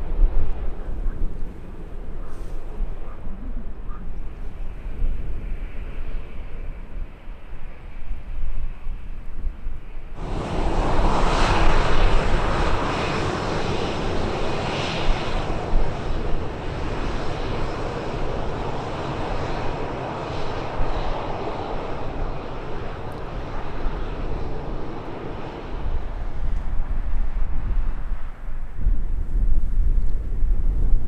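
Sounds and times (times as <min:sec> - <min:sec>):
airliner engines roaring: 0:00.0 - 0:09.0, 0:09.8 - 0:29.3.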